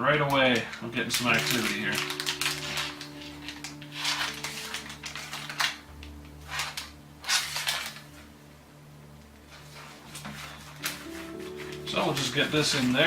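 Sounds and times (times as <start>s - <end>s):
faint steady hum: 0.0s - 13.0s
plastic pouches crinkling: 0.4s - 8.3s, 9.6s - 13.0s.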